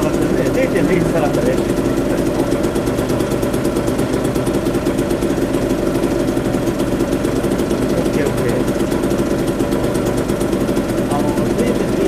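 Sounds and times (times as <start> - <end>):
moped engine idling: 0.0 - 12.0.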